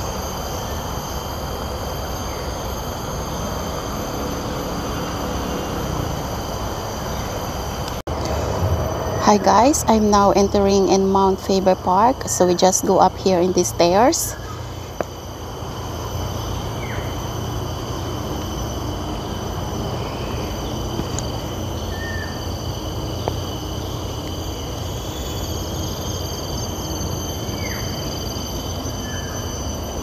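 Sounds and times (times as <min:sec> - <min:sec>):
low steady rumble: 0:00.0 - 0:25.4
high-pitched insect drone: 0:00.0 - 0:30.0.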